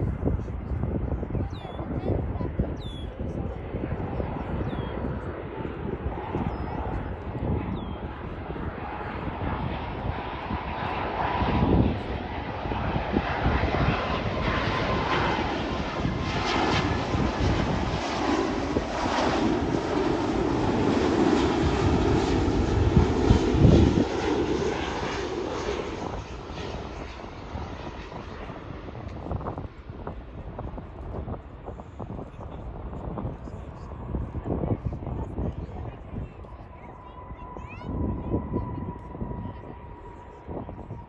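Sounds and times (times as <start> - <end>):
jet airliner engines: 0.0 - 41.0.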